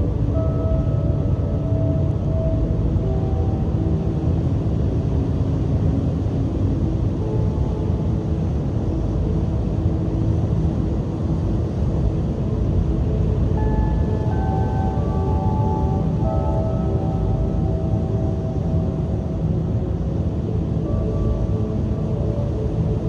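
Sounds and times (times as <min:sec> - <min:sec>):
strong sea wind: 0:00.0 - 0:23.0.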